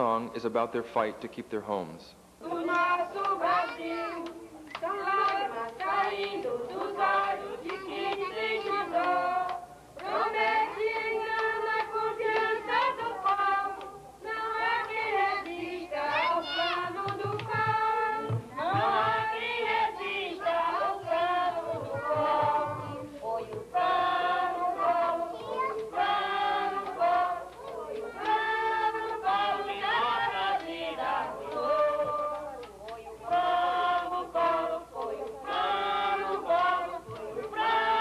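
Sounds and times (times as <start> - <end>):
women and girls singing: 2.4 - 38.0.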